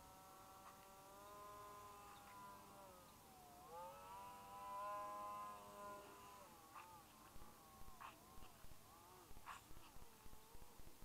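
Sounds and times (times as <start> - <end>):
electric model plane motor whine: 0.0 - 11.0.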